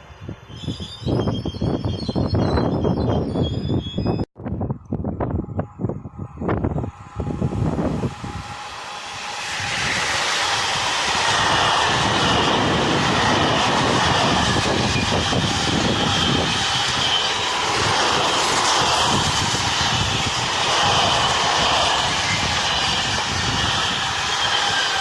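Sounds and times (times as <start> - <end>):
train passing through station: 0.0 - 25.0.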